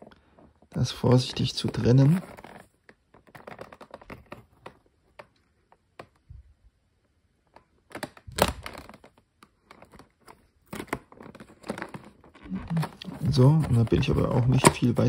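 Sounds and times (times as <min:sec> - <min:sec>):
cardboard crackling: 0:00.0 - 0:06.3, 0:07.5 - 0:15.0.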